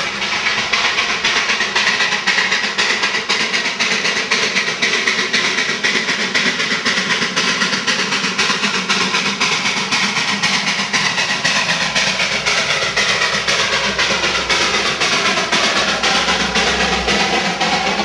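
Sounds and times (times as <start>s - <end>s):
steam hissing: 0.0s - 18.0s
steam locomotive chuffing: 0.0s - 18.0s.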